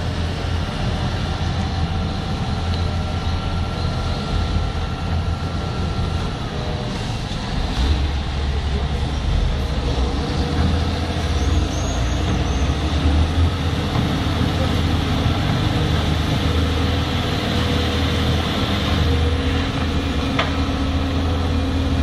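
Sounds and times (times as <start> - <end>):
excavator diesel engine rumbling: 0.0 - 22.0.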